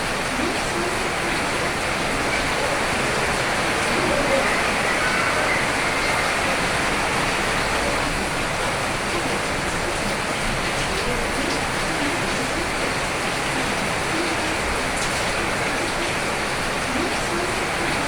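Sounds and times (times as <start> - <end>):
heavy rainfall: 0.0 - 18.0.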